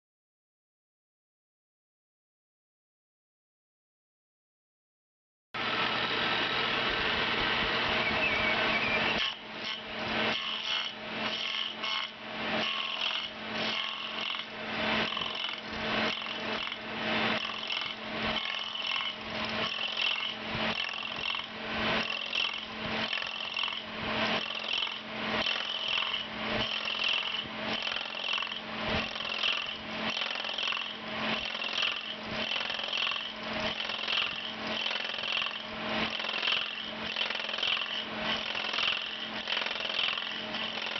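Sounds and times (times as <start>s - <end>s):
lathe cutting wood: 5.6s - 40.9s
machine hum: 5.6s - 40.9s.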